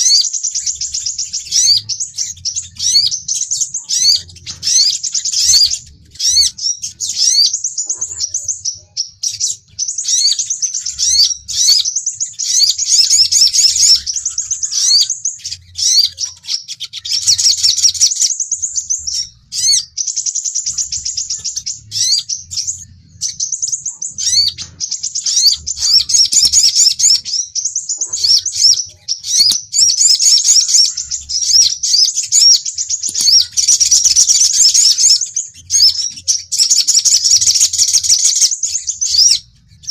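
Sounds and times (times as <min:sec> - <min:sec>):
sunbird calls chirping and trilling: 0:00.0 - 0:39.9.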